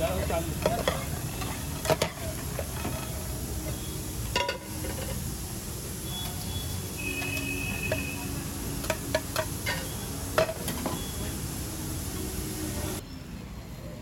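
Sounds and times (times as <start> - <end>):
steady sizzle: 0.0 - 13.0.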